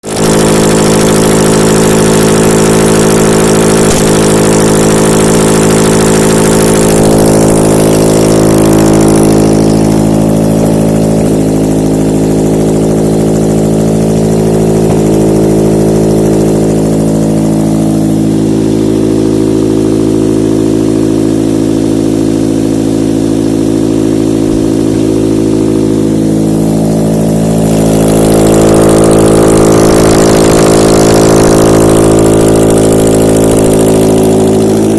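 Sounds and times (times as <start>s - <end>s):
petrol engine idling: 0.0s - 34.9s.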